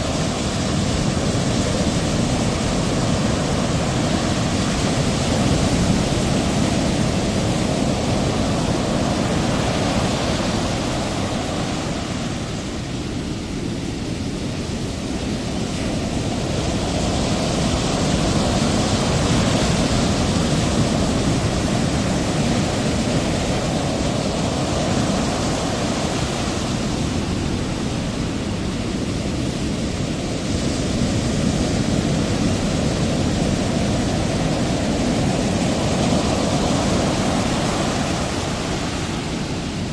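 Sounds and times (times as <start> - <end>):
ocean surf: 0.0 - 39.9.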